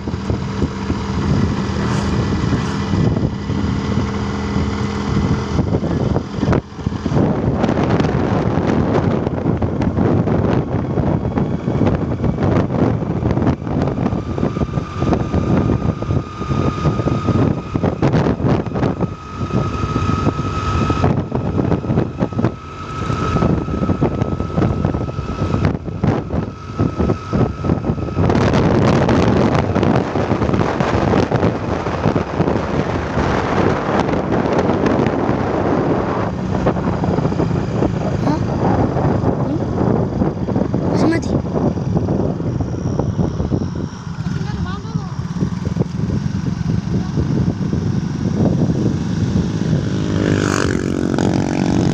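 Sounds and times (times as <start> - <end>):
storm wind gusting on microphone: 0.0 - 51.9.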